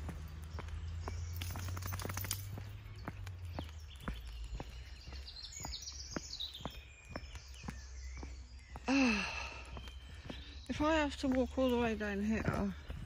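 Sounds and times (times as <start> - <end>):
footsteps walking: 0.0 - 13.0
songbirds singing: 0.0 - 13.0.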